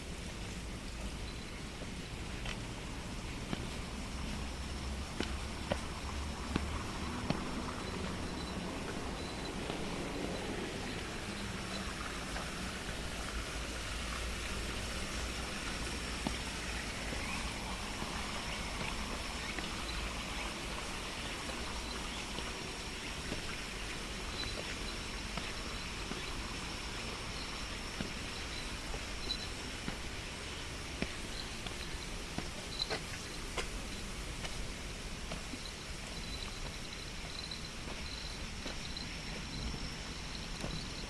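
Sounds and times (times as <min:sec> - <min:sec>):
flowing stream water: 0:00.0 - 0:41.0
high cicada drone: 0:00.8 - 0:41.0.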